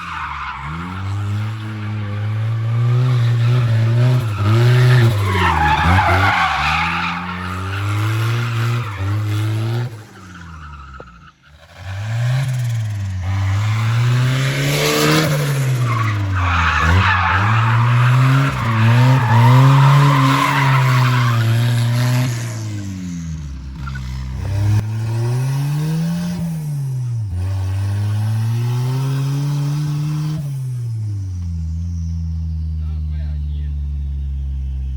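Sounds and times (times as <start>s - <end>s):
car engine revving: 0.0s - 34.9s
tyres squealing and skidding: 0.0s - 34.9s.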